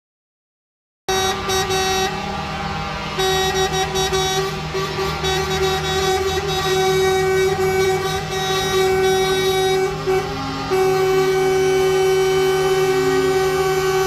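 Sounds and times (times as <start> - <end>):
low traffic rumble: 1.1 - 14.0
truck air horns blasting: 1.1 - 14.0.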